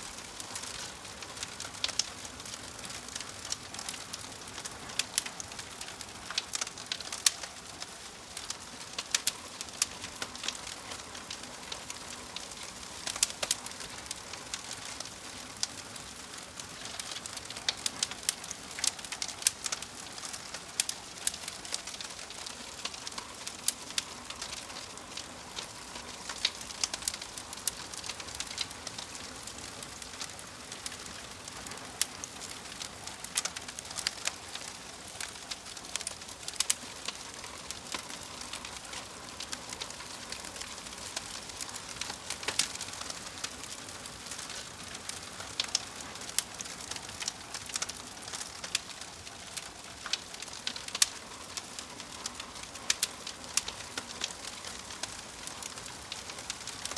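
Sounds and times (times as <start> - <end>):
log fire crackling and popping: 0.0 - 56.9.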